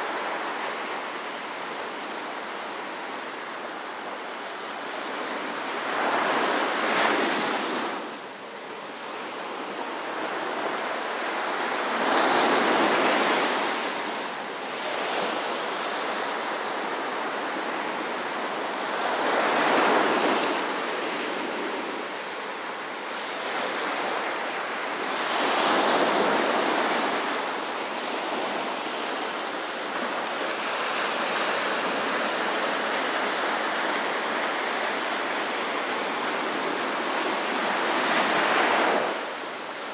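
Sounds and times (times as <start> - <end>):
small waves breaking on beach: 0.0 - 39.9
steady surf hiss: 0.0 - 39.9.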